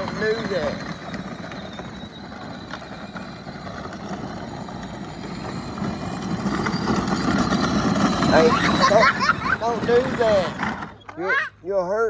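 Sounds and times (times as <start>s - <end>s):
small vehicle motor rumble: 0.0s - 11.5s.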